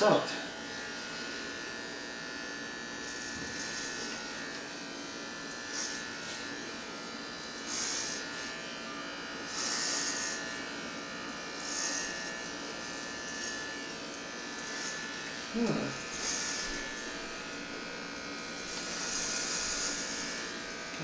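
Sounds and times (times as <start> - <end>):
electric hair clipper cutting hair: 0.0 - 21.0.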